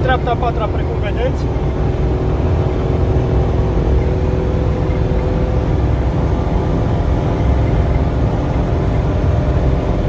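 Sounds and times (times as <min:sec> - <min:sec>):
car engine drone: 0:00.0 - 0:10.0
road and tyre rumble: 0:00.0 - 0:10.0.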